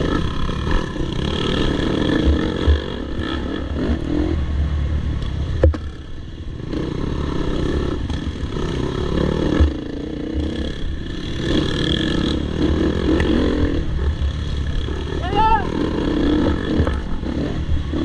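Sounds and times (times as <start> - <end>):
dirt bike engine revving: 0.0 - 4.8, 5.8 - 18.0.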